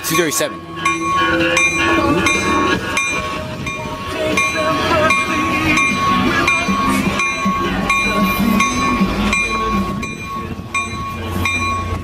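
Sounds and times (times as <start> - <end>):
train bell ringing: 0.0 - 12.0
low engine hum: 0.6 - 12.0.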